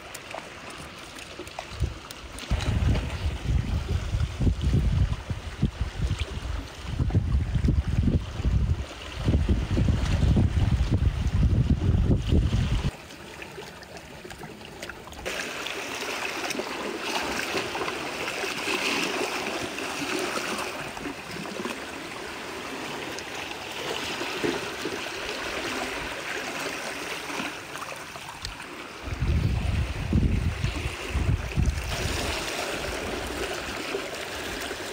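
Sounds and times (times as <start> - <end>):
seawater lapping around rocks: 0.0 - 34.9.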